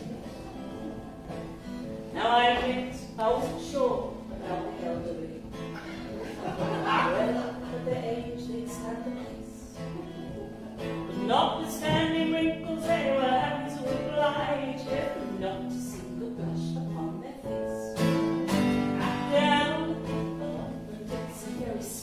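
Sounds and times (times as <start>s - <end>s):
person singing with instrumental backing: 0.0s - 22.0s.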